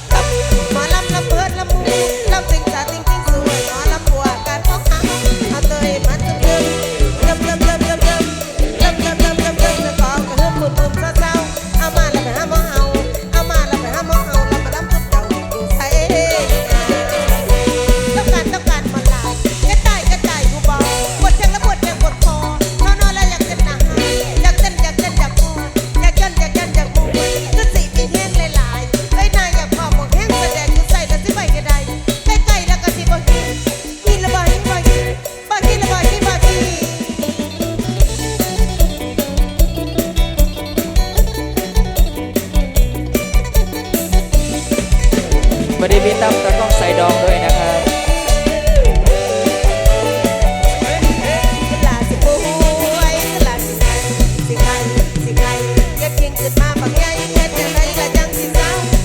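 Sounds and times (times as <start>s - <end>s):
live band playing upbeat dance music: 0.0s - 59.0s.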